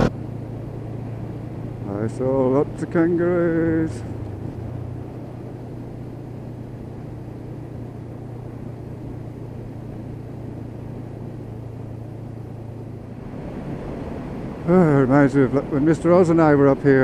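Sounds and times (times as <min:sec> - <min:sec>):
motorcycle engine cruising: 0:00.0 - 0:17.0
road noise: 0:00.0 - 0:17.0.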